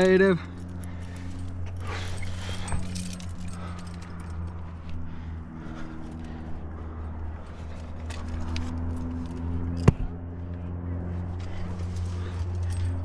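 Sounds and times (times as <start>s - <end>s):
climbing gear clinking: 0.0s - 13.0s
steady low hum: 0.0s - 13.0s.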